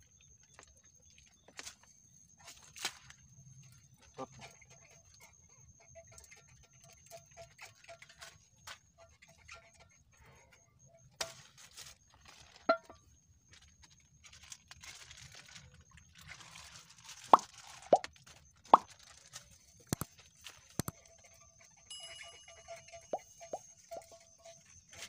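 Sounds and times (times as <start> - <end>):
faint ticks and rustling: 0.0 - 25.0.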